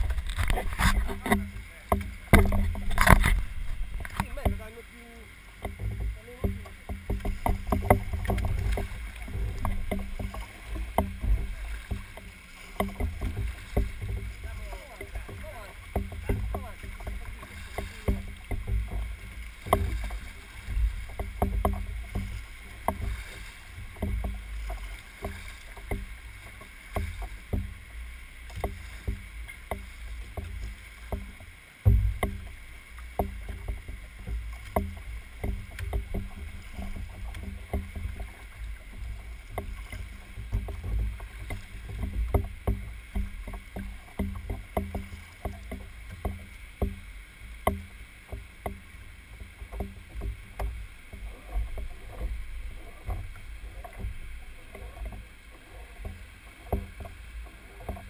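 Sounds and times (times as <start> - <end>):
small knocks on a hull: 0.0 - 58.0
water slapping against a hull: 0.0 - 58.0.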